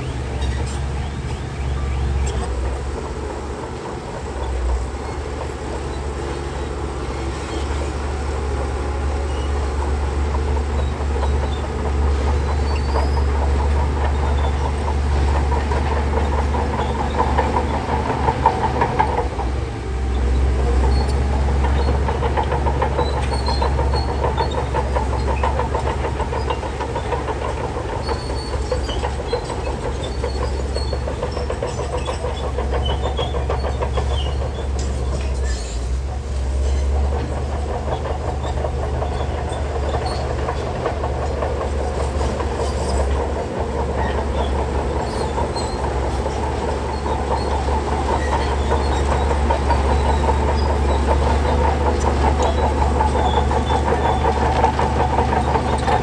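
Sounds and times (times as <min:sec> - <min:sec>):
bulldozer diesel engine: 0:00.0 - 0:56.0
steel tracks clattering: 0:00.0 - 0:56.0.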